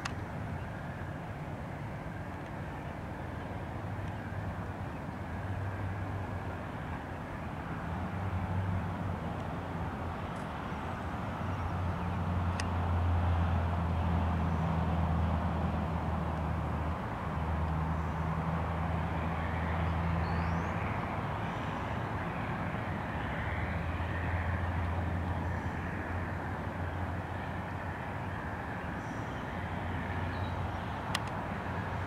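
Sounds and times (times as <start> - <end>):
distant diesel engines droning: 0.0 - 32.0.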